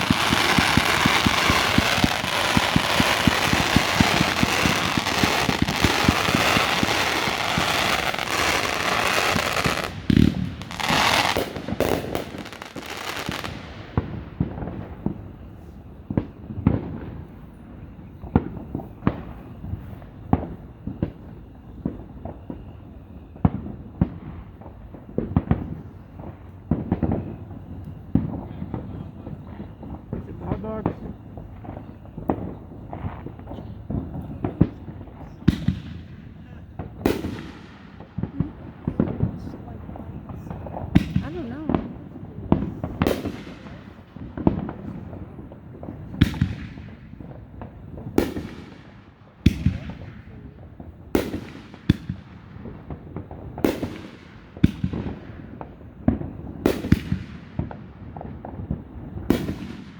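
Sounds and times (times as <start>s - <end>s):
dull firework booms: 0.0s - 22.8s, 23.4s - 48.8s
fireworks crackling and bangs: 0.0s - 59.9s.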